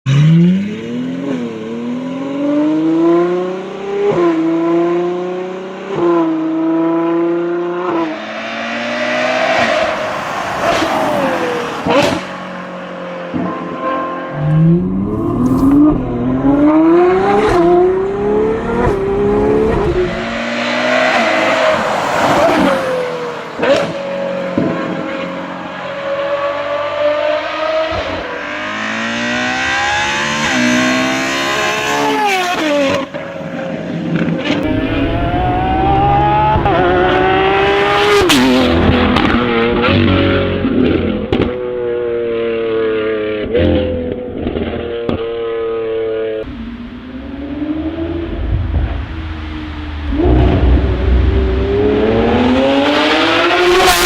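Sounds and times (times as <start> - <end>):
sports car engines accelerating: 0.1 - 54.0.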